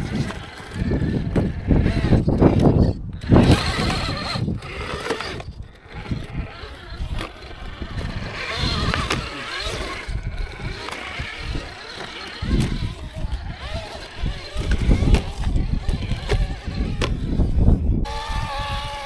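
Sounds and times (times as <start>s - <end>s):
rc crawler drivetrain whining: 0.0s - 19.0s.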